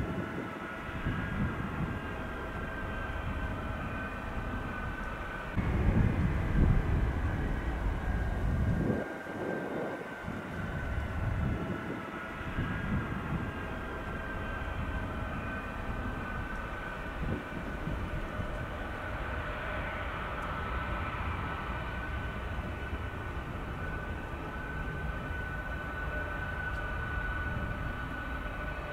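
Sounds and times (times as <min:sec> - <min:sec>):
jet engines turbine whine: 0:00.0 - 0:28.9.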